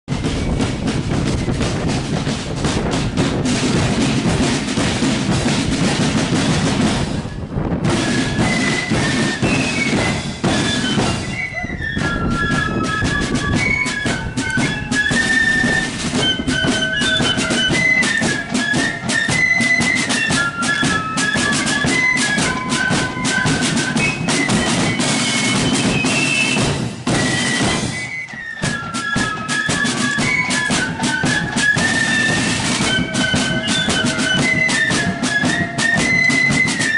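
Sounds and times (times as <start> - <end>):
drums beating: 0.1 - 36.9
flutes playing a melody: 0.2 - 36.9.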